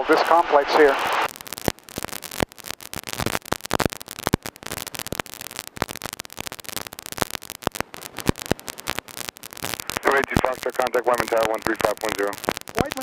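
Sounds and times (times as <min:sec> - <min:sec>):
crackling static hiss: 0:00.0 - 0:13.0.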